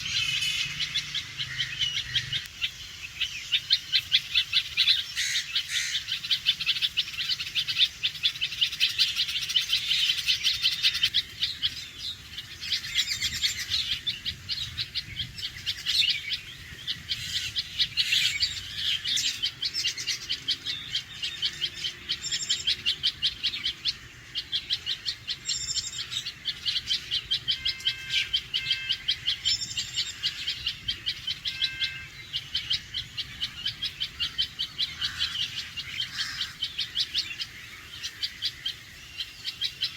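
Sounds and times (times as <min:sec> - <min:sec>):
bird alarm calls: 0:00.0 - 0:39.9.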